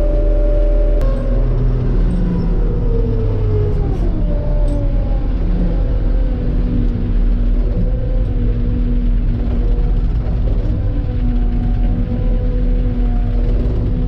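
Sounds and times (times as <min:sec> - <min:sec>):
combine harvester droning: 0:00.0 - 0:14.0.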